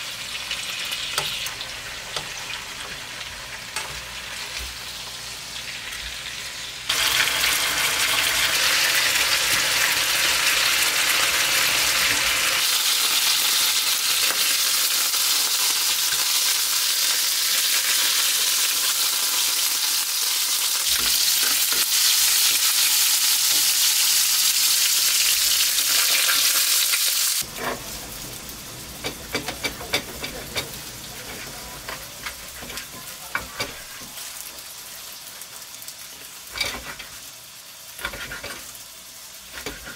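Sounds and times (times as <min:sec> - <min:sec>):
steak sizzling in a frying pan: 0:00.0 - 0:39.9.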